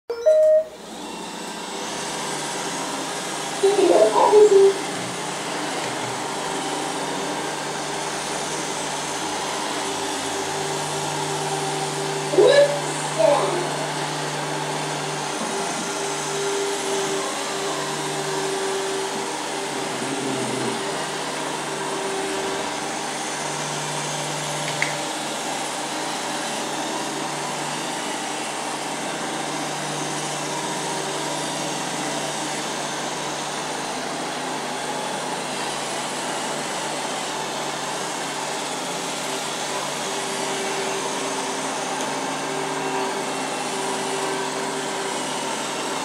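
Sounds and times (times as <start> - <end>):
robot vacuum cleaner humming: 0.2 - 46.0.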